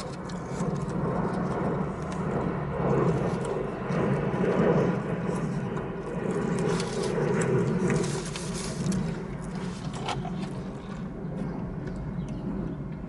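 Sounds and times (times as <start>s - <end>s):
low hum of vehicles: 0.0s - 13.0s.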